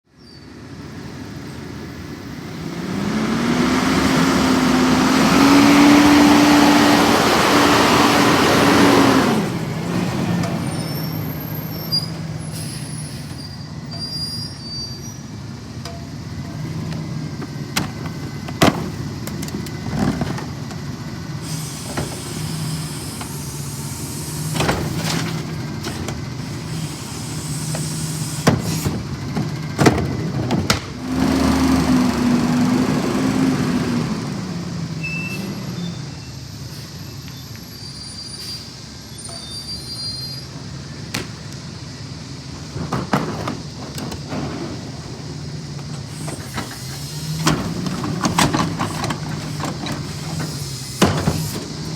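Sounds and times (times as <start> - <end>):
garbage truck engine revving: 1.1 - 51.9.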